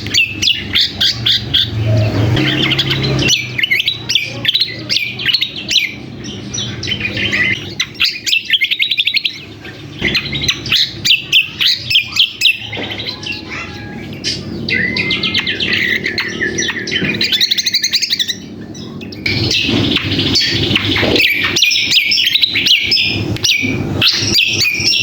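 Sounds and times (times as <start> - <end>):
songbird chattering and trilling: 0.0 - 25.0.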